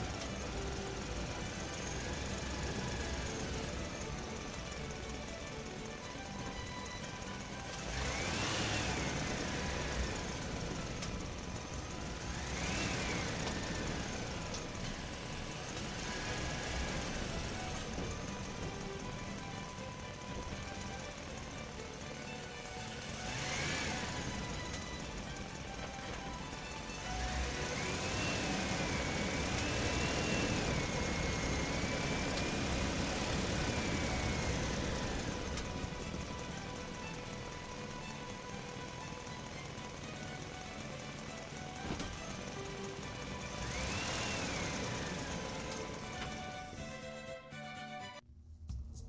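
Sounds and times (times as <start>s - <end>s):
tyres rumbling on dirt: 0.0s - 47.3s
toy truck electric motor whining: 0.0s - 47.4s.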